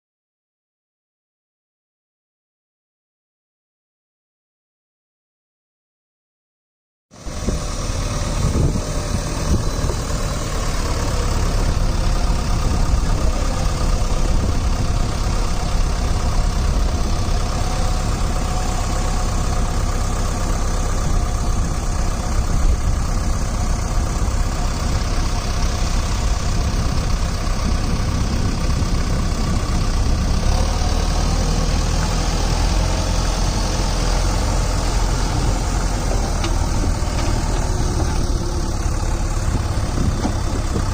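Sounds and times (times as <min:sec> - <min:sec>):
diesel engine running: 0:07.1 - 0:40.9.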